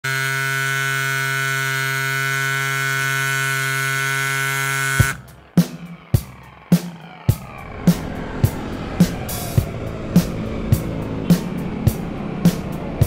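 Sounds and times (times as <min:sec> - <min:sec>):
steady humming tone: 0:00.0 - 0:13.0.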